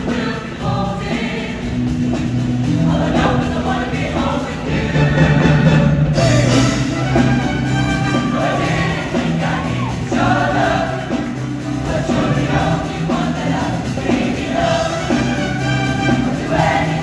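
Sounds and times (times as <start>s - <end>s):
choir singing: 0.0s - 17.0s
instrumental backing music: 0.0s - 17.0s
steady bass: 0.0s - 17.0s.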